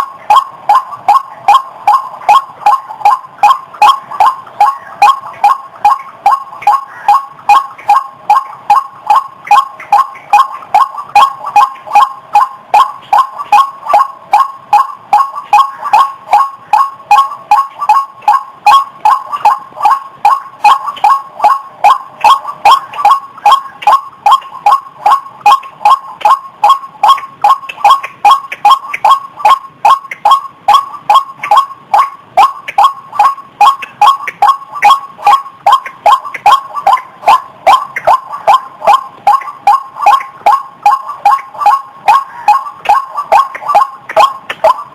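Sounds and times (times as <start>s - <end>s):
waterhen harsh calls: 0.0s - 44.9s.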